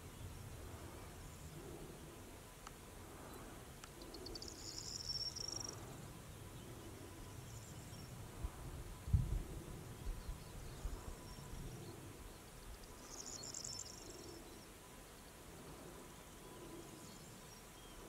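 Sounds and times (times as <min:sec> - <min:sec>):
faint countryside ambience: 0:00.0 - 0:18.0.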